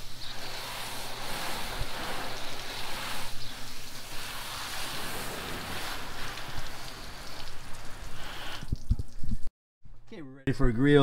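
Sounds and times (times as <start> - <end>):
water spraying on metal panels: 0.0 - 9.5.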